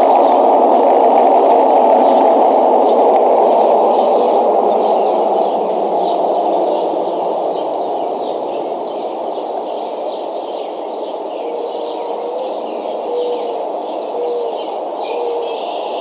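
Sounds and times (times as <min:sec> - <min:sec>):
steady rushing background noise: 0:00.0 - 0:15.0
birds chirping: 0:00.0 - 0:16.0.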